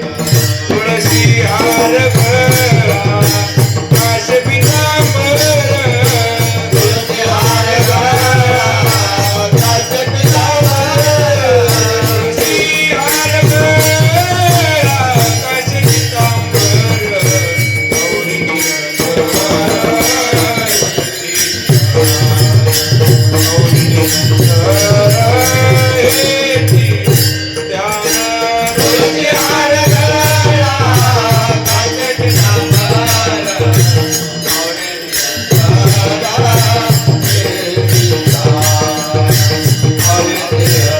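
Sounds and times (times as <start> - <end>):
hand cymbals jingling: 0.0 - 40.9
man singing devotional melody: 0.0 - 40.9.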